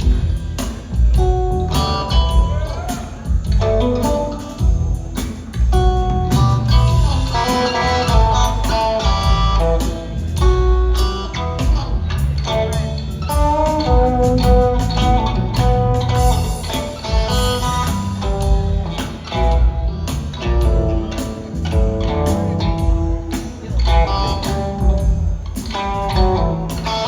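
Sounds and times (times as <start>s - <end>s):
bass guitar: 0.0s - 27.0s
drum kit: 0.0s - 27.0s
electric guitar lines: 0.0s - 27.0s.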